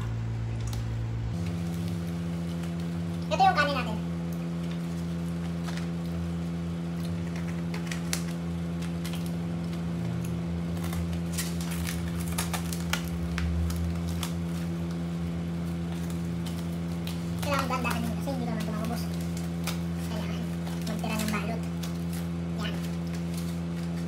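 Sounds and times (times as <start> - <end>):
low electrical hum: 0.0 - 24.0
plastic pack crackling: 0.5 - 24.0.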